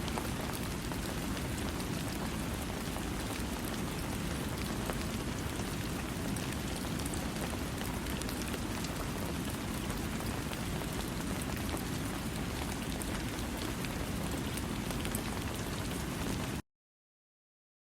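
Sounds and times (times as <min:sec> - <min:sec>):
steady rain falling: 0:00.0 - 0:16.6.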